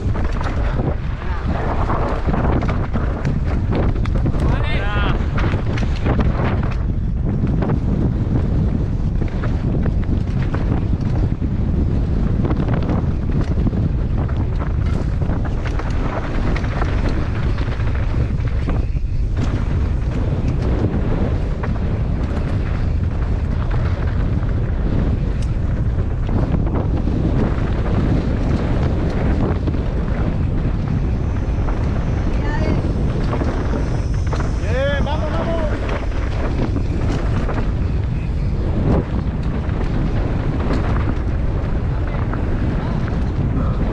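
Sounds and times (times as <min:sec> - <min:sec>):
bike tyres clattering on dirt: 0:00.0 - 0:43.9
wind buffeting microphone: 0:00.0 - 0:43.9.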